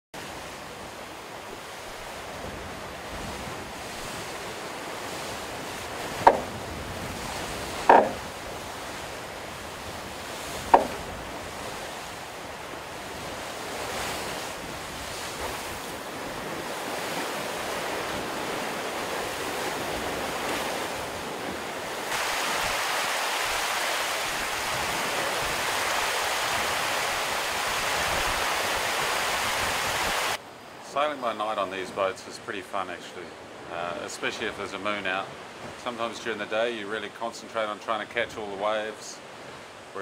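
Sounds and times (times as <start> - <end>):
wind: 0.1 - 40.0
water rushing along a hull: 0.2 - 40.0.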